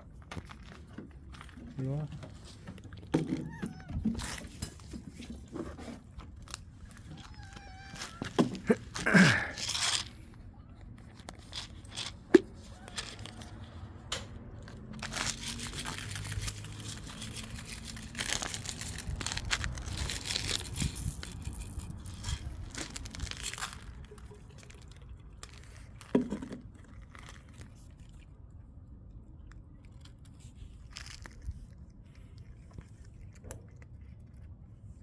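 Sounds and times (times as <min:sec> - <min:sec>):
plastic bag of dry food crinkling: 0:00.0 - 0:13.8, 0:14.5 - 0:28.6, 0:29.4 - 0:34.5.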